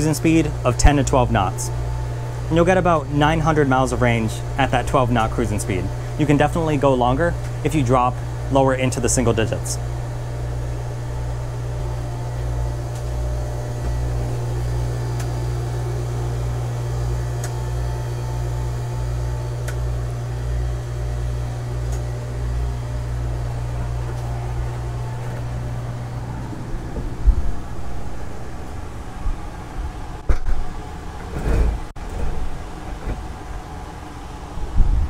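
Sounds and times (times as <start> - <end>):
engine room machinery hum: 0.0 - 35.0.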